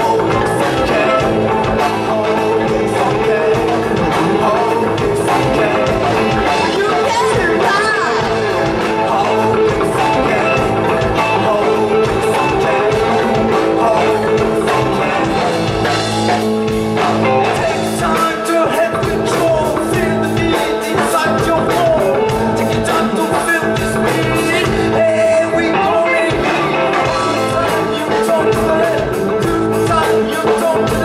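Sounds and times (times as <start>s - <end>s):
live rock band: 0.0s - 31.0s
person singing: 0.0s - 31.0s.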